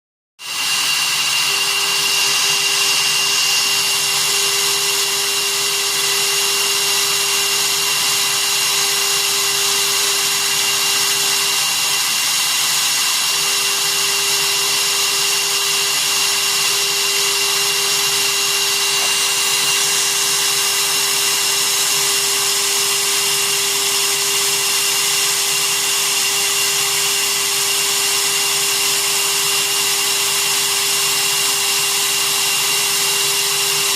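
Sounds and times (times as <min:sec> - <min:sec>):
spindle motor high whine: 0:00.4 - 0:33.9.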